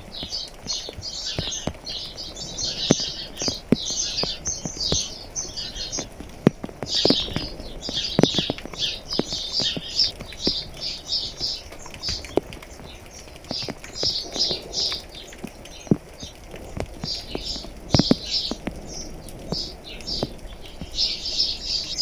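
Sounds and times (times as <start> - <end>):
raindrops tapping: 0.0 - 22.0
small birds chirping: 0.0 - 22.0.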